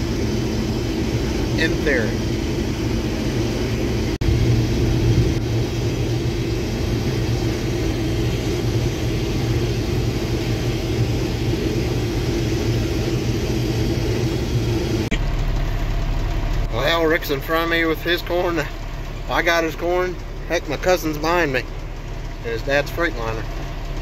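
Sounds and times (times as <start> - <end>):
diesel engine drone from cab: 0.0 - 24.0.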